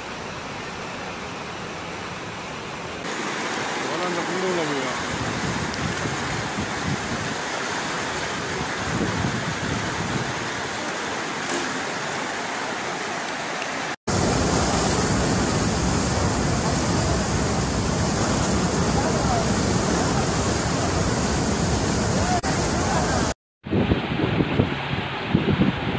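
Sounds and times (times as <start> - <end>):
floodwater rushing: 0.0 - 23.4
river in flood rushing: 0.0 - 25.9.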